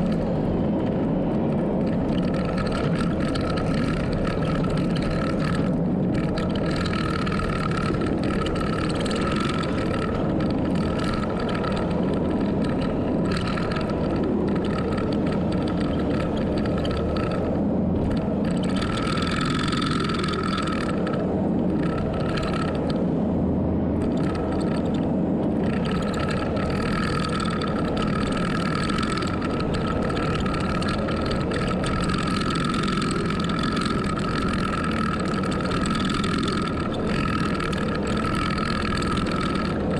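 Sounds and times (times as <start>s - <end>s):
heavy machine diesel engine running: 0.0s - 39.9s
high whine: 0.0s - 39.9s.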